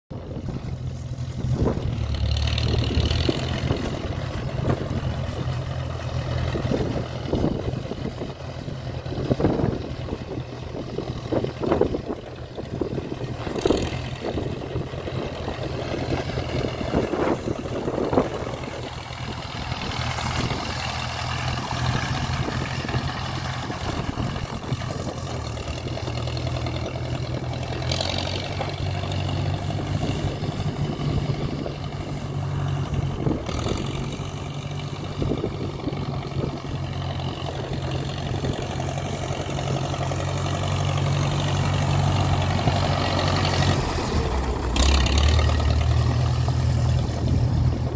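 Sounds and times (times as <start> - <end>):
tractor engine running: 0.1 - 47.9.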